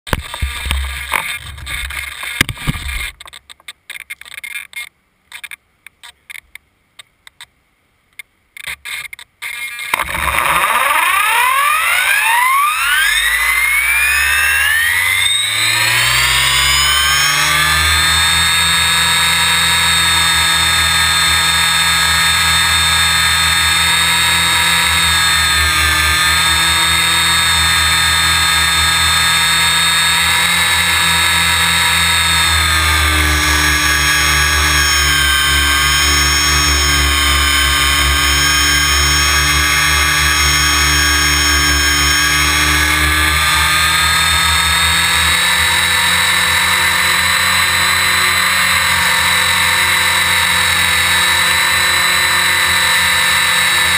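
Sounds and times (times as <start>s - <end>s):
rc helicopter rotor whine: 0.1s - 3.2s, 8.8s - 53.9s.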